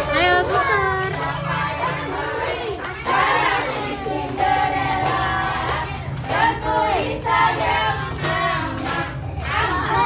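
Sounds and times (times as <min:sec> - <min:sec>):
young children singing: 0:00.0 - 0:10.0.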